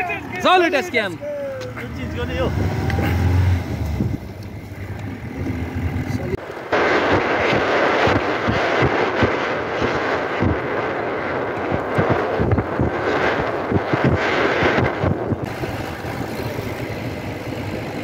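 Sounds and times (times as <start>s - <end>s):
vehicle rumble: 0.0s - 18.0s
wind buffeting microphone: 0.0s - 18.0s.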